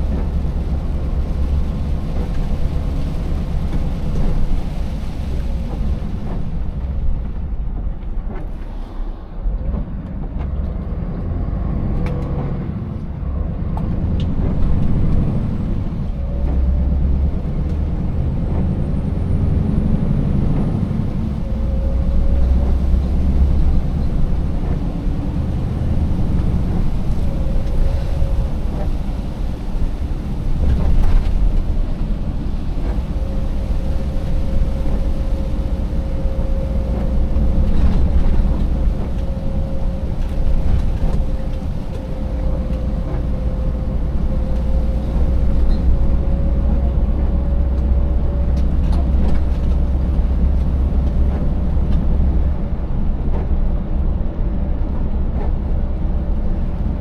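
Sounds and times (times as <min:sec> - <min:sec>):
road noise: 0:00.0 - 0:57.0
truck engine rumbling: 0:00.0 - 0:57.0.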